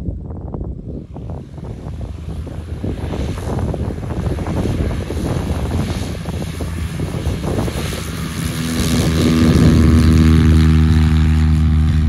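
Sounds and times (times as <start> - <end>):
airplane engine and propeller: 0.0 - 12.0
wind buffeting microphone: 0.0 - 12.0.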